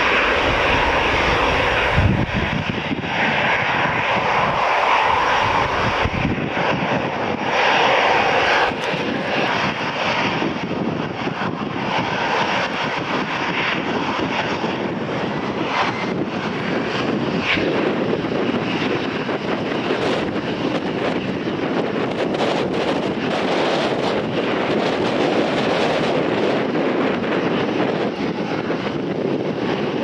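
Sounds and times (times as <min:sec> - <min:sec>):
aircraft engines rushing: 0:00.0 - 0:30.0
wind buffeting microphone: 0:00.0 - 0:30.0.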